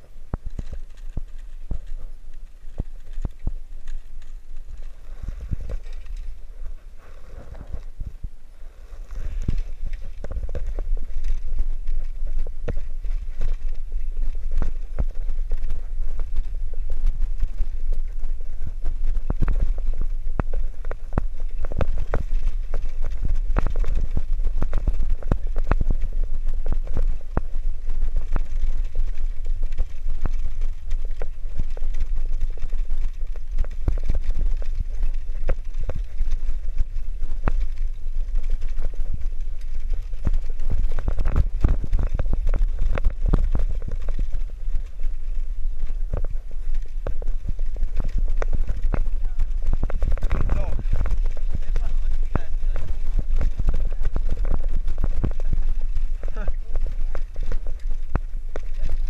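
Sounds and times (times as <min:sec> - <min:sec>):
bicycle wheels rumbling on concrete: 0:00.0 - 0:59.0.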